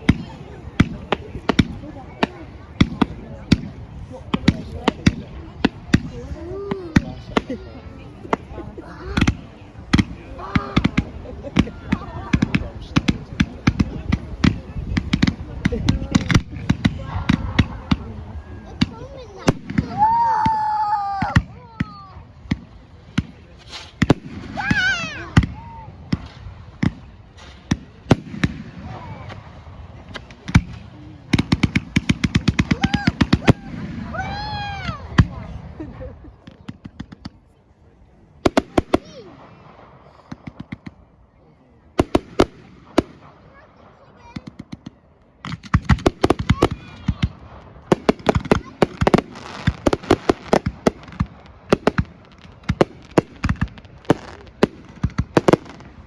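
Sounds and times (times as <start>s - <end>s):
fireworks bangs: 0.0s - 41.3s, 41.9s - 56.0s.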